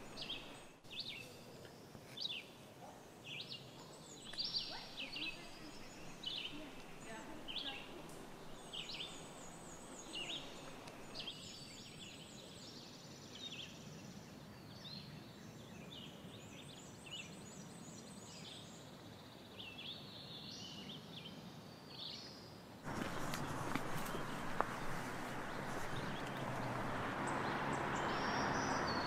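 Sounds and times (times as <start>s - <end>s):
faint background hiss: 0.0s - 29.0s
songbirds singing: 0.0s - 29.0s.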